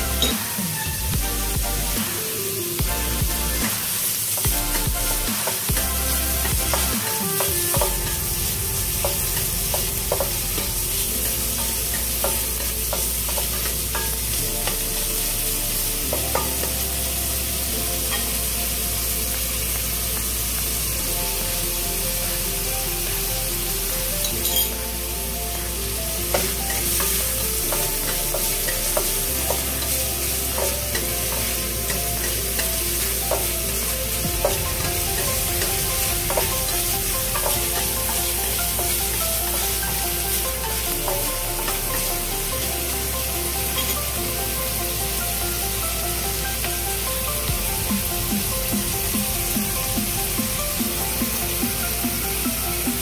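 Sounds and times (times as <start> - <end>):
background music: 0.0 - 53.0
bacon sizzling in a wok: 0.0 - 53.0.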